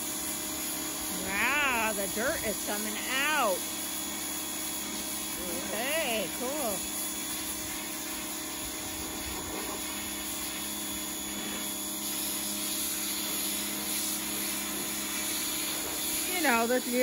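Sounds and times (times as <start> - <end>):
pressure washer motor humming: 0.0 - 17.0
water jet hissing: 0.0 - 17.0.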